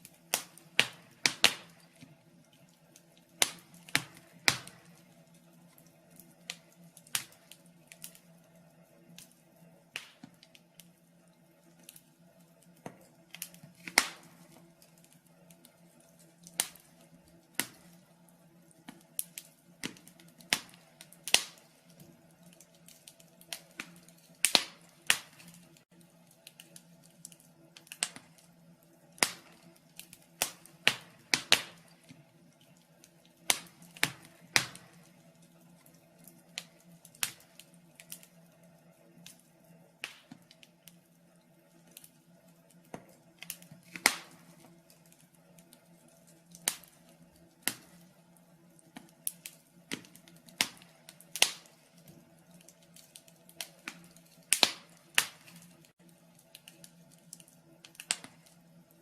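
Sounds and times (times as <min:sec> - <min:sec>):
faint steady hum: 0:00.0 - 0:59.0
wood fire crackling and popping: 0:00.0 - 0:59.0.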